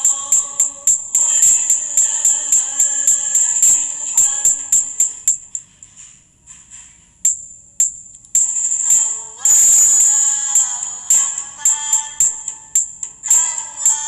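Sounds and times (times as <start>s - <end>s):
music: 0.0s - 5.6s, 7.3s - 14.0s
tambourine beat: 0.0s - 5.7s, 7.3s - 14.0s.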